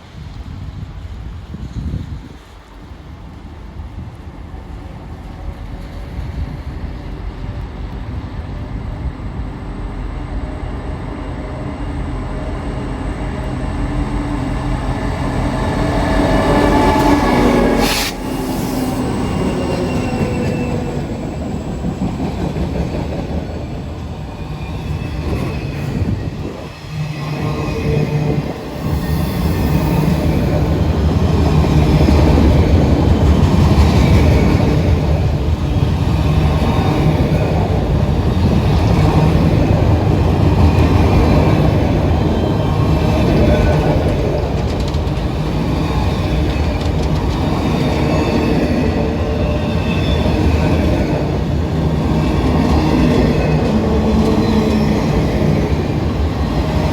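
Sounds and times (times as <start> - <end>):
freight train passing: 0.0 - 56.9.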